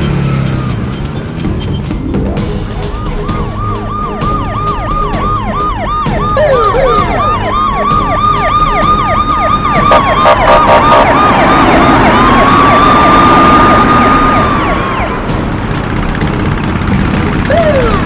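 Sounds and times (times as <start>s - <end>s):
police sirens: 2.5s - 16.4s, 17.4s - 18.0s.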